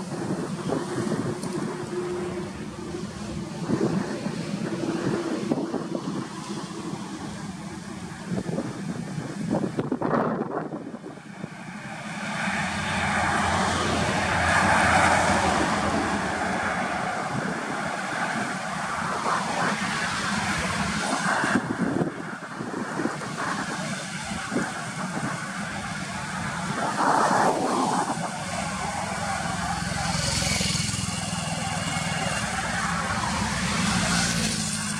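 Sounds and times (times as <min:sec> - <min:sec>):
bus and cars driving past: 0:00.0 - 0:34.9.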